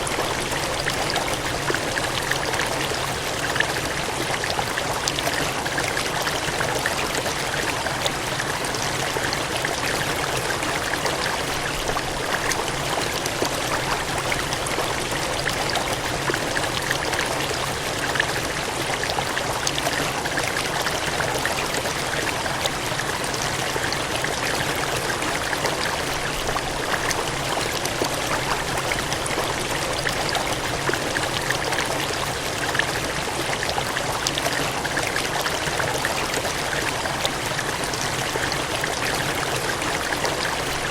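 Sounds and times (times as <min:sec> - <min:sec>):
water gushing: 0:00.0 - 0:40.9.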